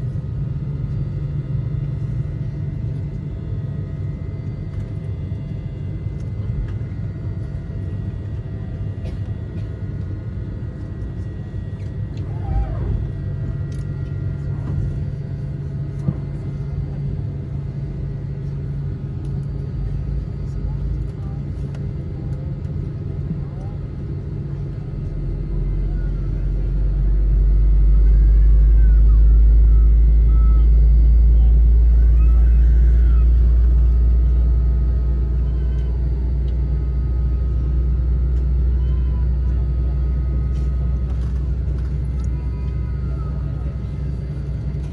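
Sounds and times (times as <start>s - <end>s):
jet engine cabin rumble: 0.0s - 44.9s.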